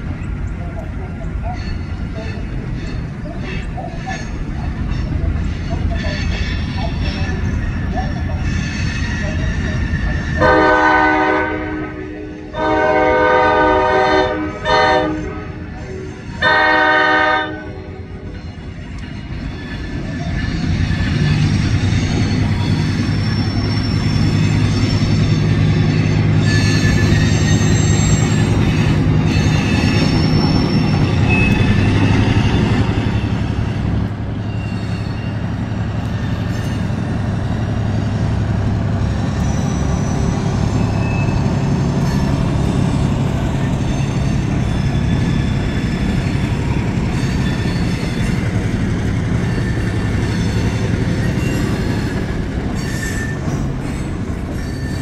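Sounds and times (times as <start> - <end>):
freight cars rumbling and clattering: 0.0 - 10.8, 17.7 - 55.0
locomotive engine hum: 0.0 - 55.0
high wheel squeals: 1.4 - 11.2, 14.8 - 55.0.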